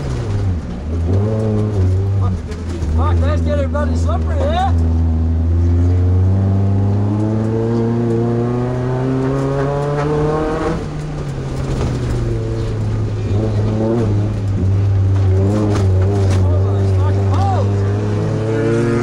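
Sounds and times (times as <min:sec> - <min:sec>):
truck engine accelerating hard: 0:00.0 - 0:19.0.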